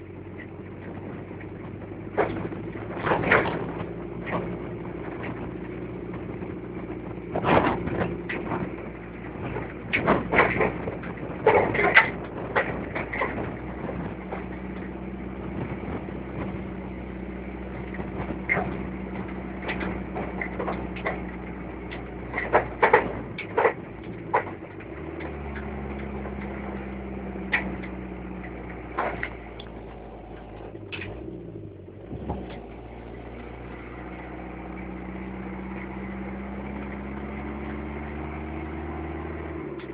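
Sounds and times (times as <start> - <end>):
vehicle engine running: 0.0 - 39.9
vehicle knocks and rattles: 0.0 - 39.9.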